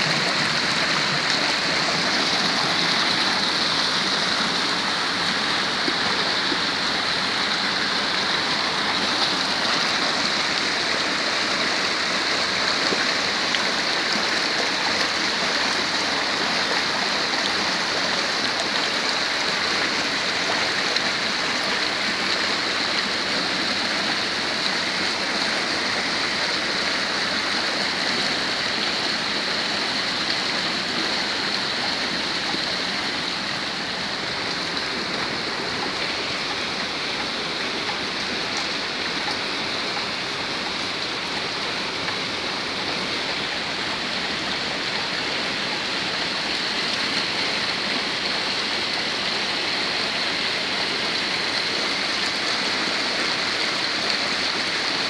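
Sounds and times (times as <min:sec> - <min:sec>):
heavy rain falling: 0:00.0 - 0:55.0
runoff water rushing: 0:00.0 - 0:55.0.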